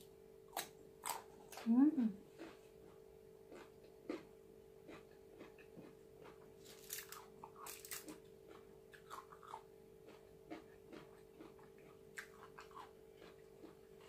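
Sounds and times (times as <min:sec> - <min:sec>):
faint steady hum: 0:00.0 - 0:14.0
person chewing and smacking: 0:02.3 - 0:14.0.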